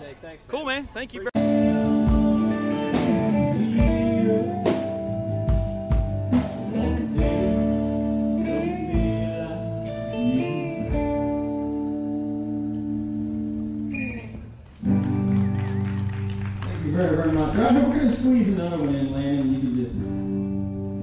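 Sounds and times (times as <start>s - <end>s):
guitars playing chords: 1.4s - 21.0s.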